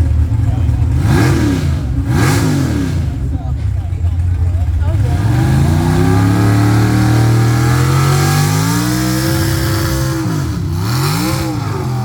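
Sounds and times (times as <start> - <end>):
truck engine revving hard: 0.0 - 3.7, 4.8 - 12.0.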